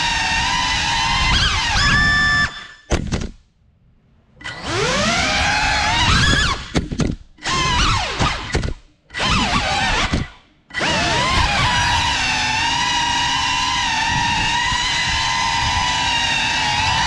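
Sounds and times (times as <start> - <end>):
drone motors whining: 0.0 - 2.9, 4.4 - 6.8, 7.4 - 17.0.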